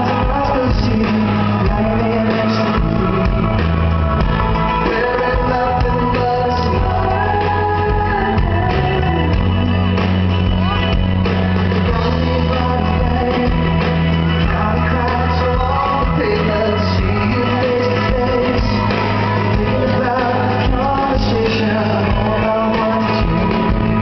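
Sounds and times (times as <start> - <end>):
live pop-rock band: 0.0 - 24.0
man singing lead vocal: 0.0 - 24.0.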